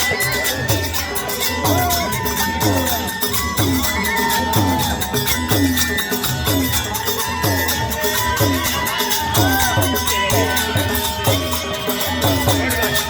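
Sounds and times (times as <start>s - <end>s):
double flute melody: 0.0s - 12.9s
drum beat: 0.0s - 13.0s
rattling percussion: 0.0s - 13.0s.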